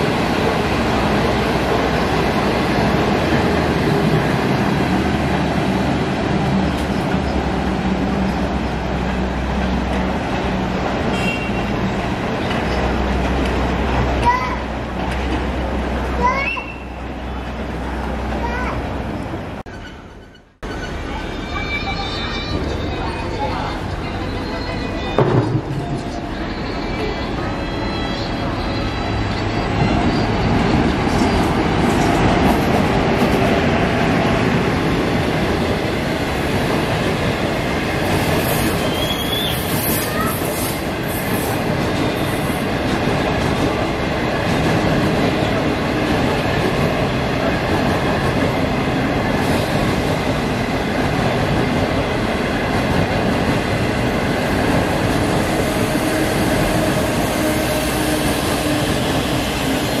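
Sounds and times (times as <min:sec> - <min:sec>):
train wheels on track: 0:00.0 - 1:00.0.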